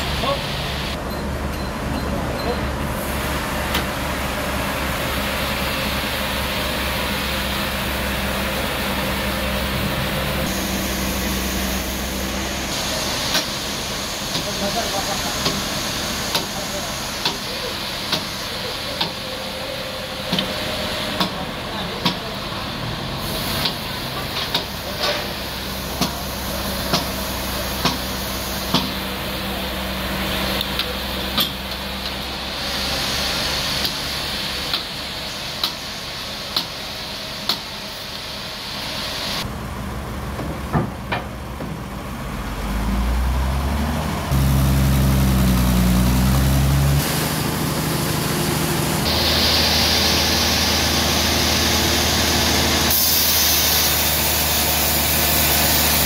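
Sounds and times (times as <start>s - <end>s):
sawmill engine running: 0.0s - 56.0s
hiss: 2.9s - 39.5s, 44.3s - 56.0s.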